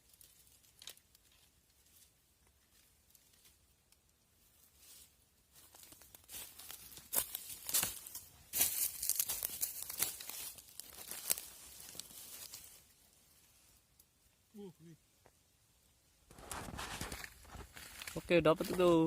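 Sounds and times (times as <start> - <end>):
rustling and crackling: 0.0 - 14.1, 16.2 - 19.0.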